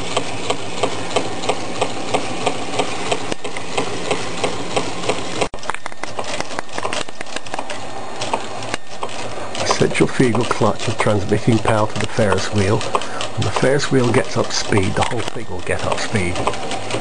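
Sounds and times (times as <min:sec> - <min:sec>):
engine gears clicking: 0:00.0 - 0:17.0
mechanical whirr: 0:00.0 - 0:17.0.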